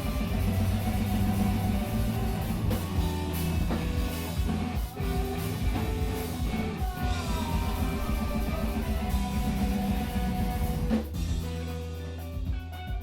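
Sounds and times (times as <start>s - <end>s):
bass and drums: 0.0s - 13.0s
distorted electric guitars: 0.0s - 13.0s.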